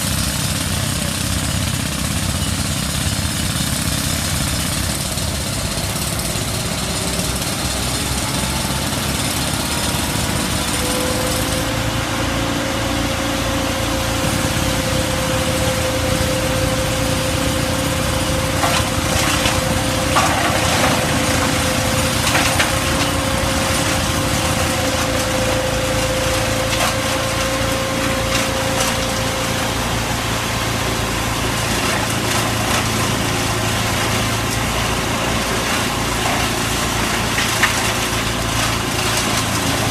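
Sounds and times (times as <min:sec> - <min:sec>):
wood chipper engine running: 0:00.0 - 0:39.9
wood cracking in chipper: 0:00.0 - 0:39.9.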